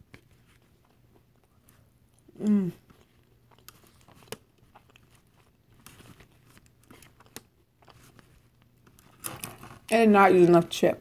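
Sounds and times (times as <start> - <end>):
faint crunching of chips: 0.0 - 10.7.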